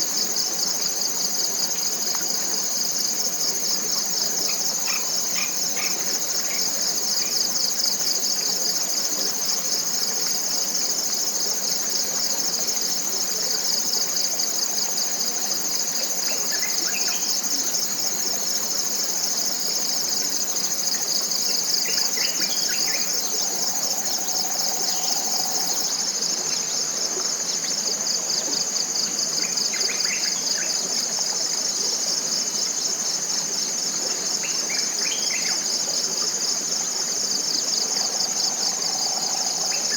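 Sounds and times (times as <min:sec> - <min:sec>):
pulsing insect chorus: 0:00.0 - 0:39.9.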